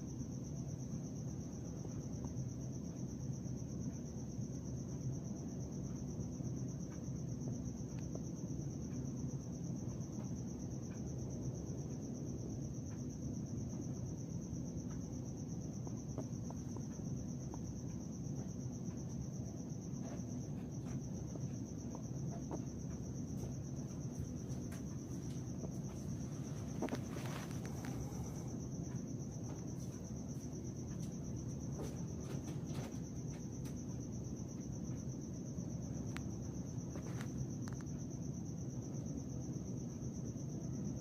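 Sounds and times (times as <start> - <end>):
crickets trilling: 0.0 - 41.0
low background rumble: 0.0 - 41.0.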